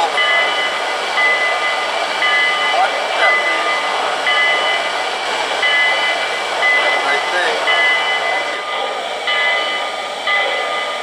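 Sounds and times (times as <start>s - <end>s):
model steam locomotive hissing: 0.0s - 11.0s.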